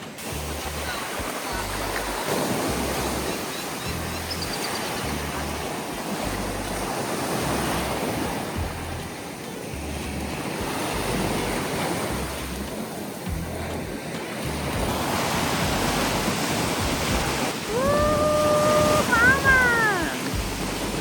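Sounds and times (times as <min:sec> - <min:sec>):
sea surf washing onto beach: 0:00.0 - 0:21.0
wind buffeting microphone: 0:00.0 - 0:21.0.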